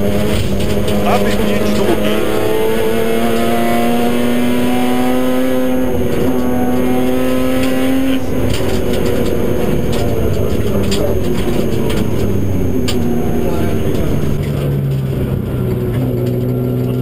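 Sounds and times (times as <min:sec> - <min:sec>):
rally car engine pulling hard: 0:00.0 - 0:17.0.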